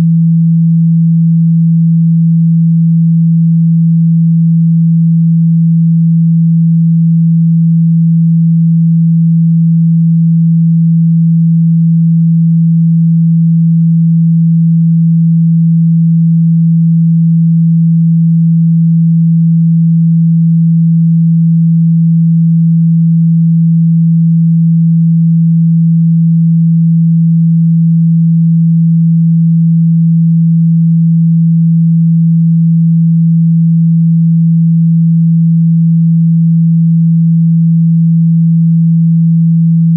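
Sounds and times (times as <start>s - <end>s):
steady pure sine tone: 0.0s - 39.9s.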